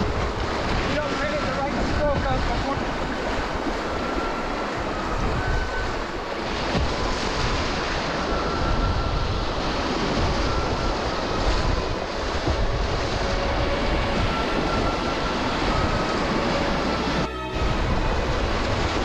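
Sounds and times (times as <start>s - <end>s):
whitewater rushing and splashing: 0.0s - 19.0s
wind buffeting microphone: 0.0s - 19.0s.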